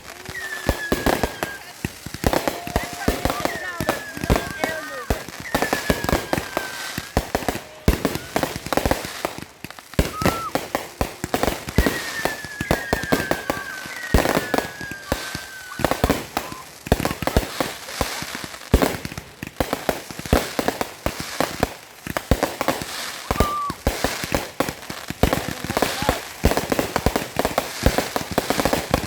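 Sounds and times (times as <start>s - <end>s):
fireworks bangs and crackling: 0.0s - 29.0s
fireworks whistling downward: 0.0s - 29.0s.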